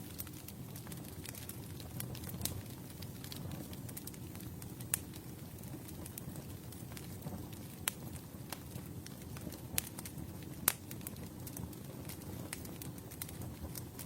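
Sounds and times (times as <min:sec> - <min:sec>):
campfire flames rushing: 0:00.0 - 0:14.0
fire crackling and popping: 0:00.0 - 0:14.0.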